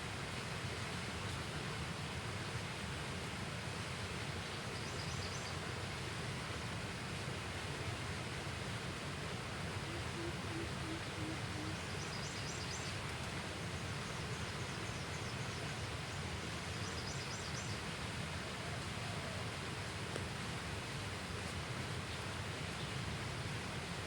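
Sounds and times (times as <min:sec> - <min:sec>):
low outdoor hiss: 0:00.0 - 0:24.0.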